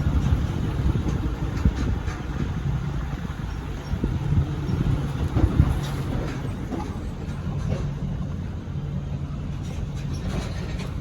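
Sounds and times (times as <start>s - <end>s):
knocks and rattles: 0.0s - 8.4s, 9.4s - 11.0s
truck engine humming: 0.0s - 11.0s.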